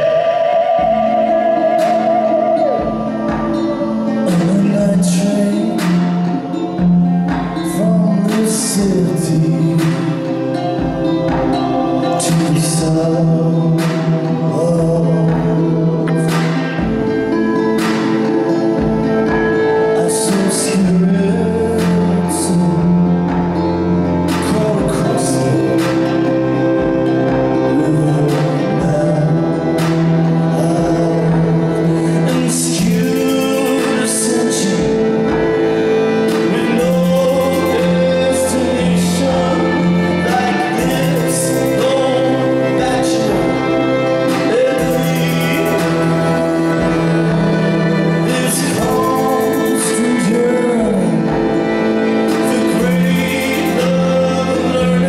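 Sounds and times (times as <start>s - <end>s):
man singing: 0.0s - 55.0s
sustained chords: 0.0s - 55.0s.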